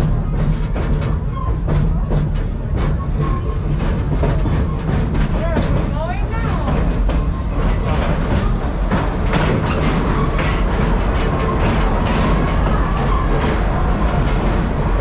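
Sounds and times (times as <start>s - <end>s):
train rumbling: 0.0s - 15.0s
wheels clickety-clack on rail joints: 0.0s - 15.0s.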